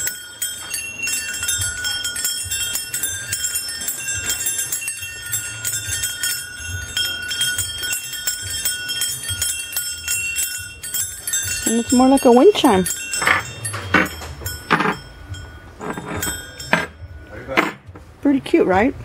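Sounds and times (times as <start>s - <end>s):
small brass bells ringing: 0.0s - 17.6s.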